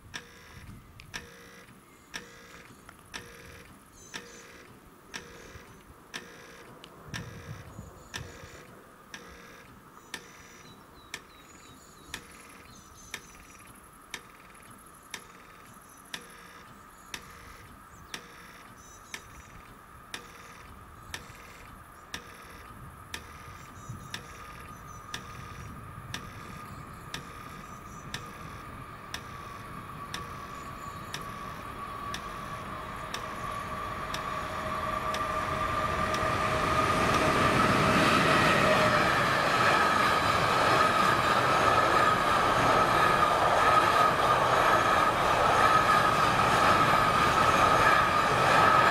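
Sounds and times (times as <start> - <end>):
high whine from rails: 0.0 - 48.9
level crossing warning ticking: 0.0 - 48.9
train rumble: 2.6 - 48.9.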